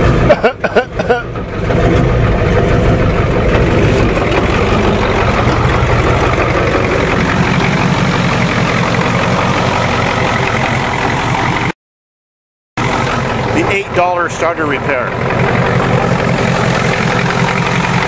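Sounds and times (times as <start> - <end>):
diesel truck engine idling: 0.0 - 11.7, 12.8 - 18.0.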